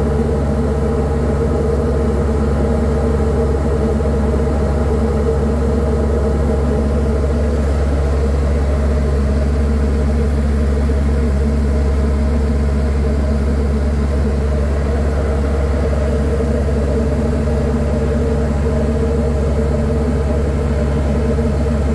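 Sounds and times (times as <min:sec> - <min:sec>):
aircraft piston engine drone: 0:00.0 - 0:21.9.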